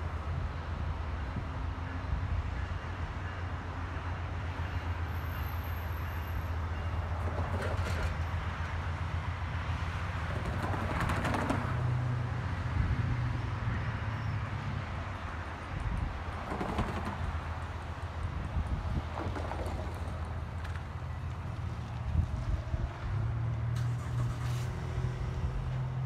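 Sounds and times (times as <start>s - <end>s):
low rumble of vehicles: 0.0s - 26.0s.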